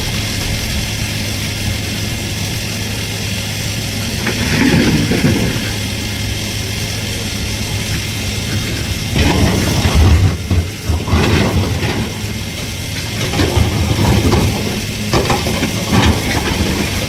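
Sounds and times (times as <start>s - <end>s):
excavator diesel engine running: 0.0s - 17.0s
rough rush of noise: 0.0s - 17.0s.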